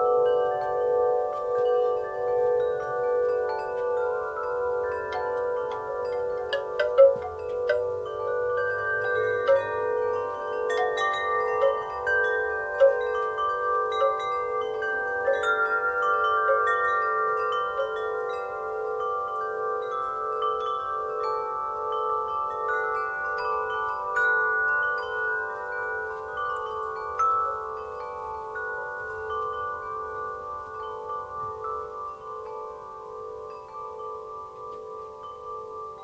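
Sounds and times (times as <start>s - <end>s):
wind chimes ringing: 0.0s - 36.0s.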